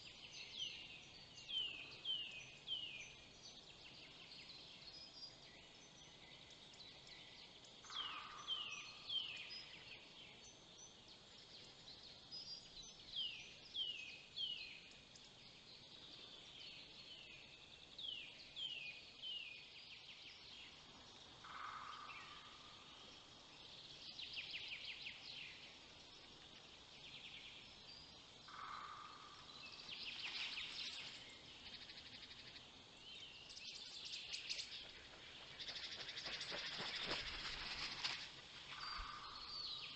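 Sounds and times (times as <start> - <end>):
faint forest birdsong: 0.0 - 39.9.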